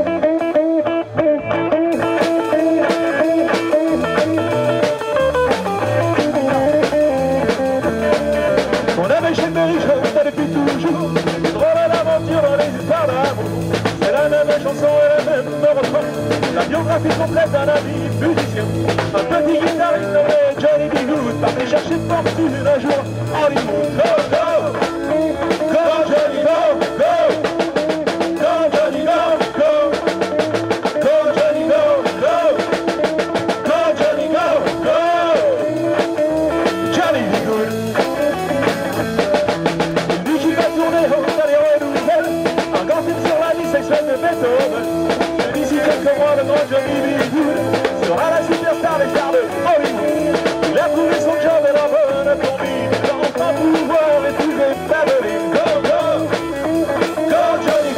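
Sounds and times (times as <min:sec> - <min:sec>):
live rock band playing: 0:00.0 - 0:57.9
man singing lead vocals: 0:00.0 - 0:57.9.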